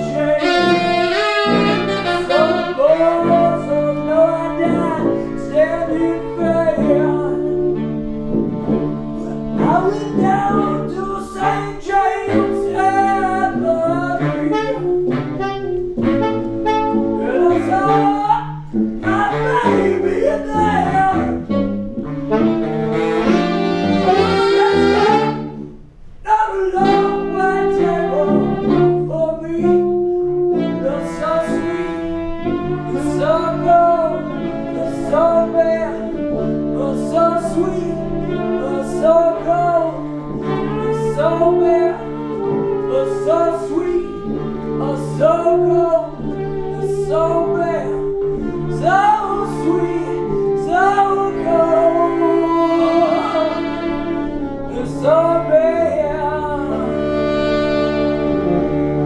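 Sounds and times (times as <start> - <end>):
trombone: 0.0 - 25.7, 26.7 - 59.0
saxophones: 0.0 - 59.0
trumpet: 0.0 - 59.0.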